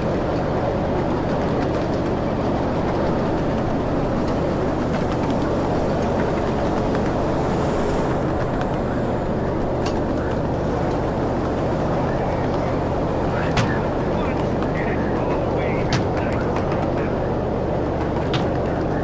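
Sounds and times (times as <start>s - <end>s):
low engine hum: 0.0s - 19.0s
ride train wheels on track: 0.0s - 19.0s.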